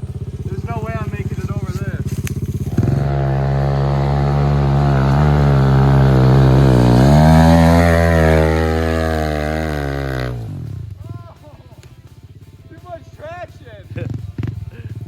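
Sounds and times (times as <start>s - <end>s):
pit bike engine revving: 0.0s - 11.2s, 11.8s - 15.0s.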